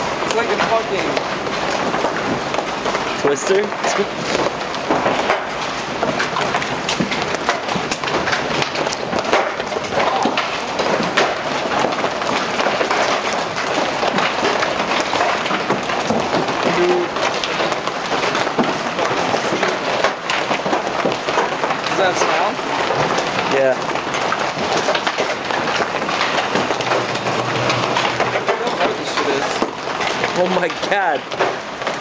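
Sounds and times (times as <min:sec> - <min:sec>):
hail clattering: 0:00.0 - 0:32.0
rain hiss: 0:00.0 - 0:32.0.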